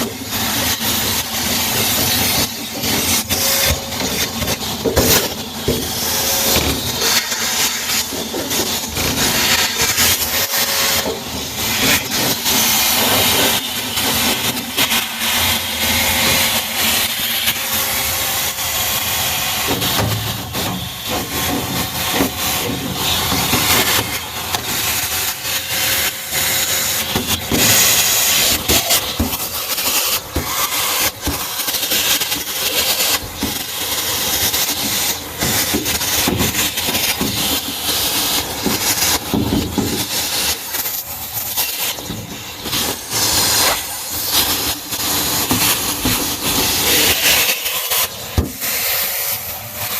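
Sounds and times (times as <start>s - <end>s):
vacuum cleaner suction hiss: 0.0s - 49.9s.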